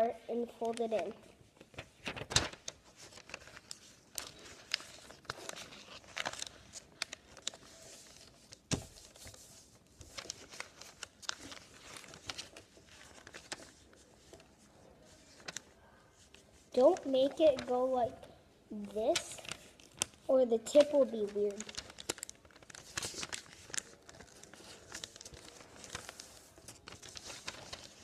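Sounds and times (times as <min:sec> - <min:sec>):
paper being folded and creased: 0:00.0 - 0:28.0.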